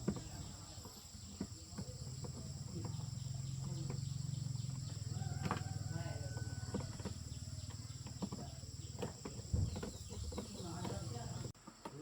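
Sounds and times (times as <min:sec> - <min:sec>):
insects buzzing: 0:00.0 - 0:12.0
small engine running: 0:01.7 - 0:11.5.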